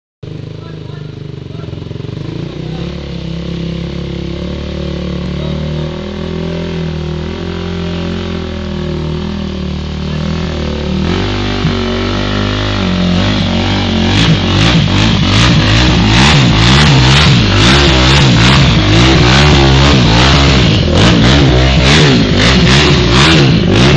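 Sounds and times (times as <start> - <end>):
quad engine revving: 0.2 - 23.9.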